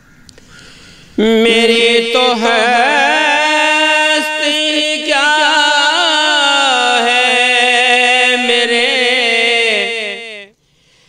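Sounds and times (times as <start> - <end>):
man singing long held note: 1.2 - 10.6.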